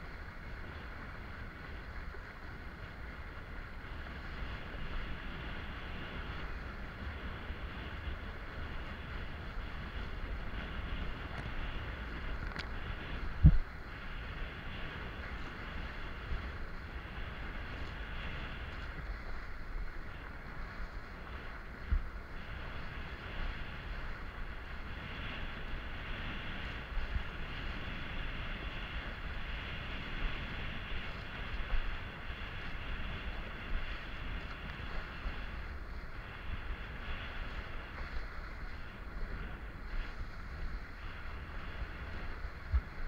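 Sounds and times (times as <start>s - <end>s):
water rushing under board: 0.0s - 43.0s
wind buffeting microphone: 0.0s - 43.0s.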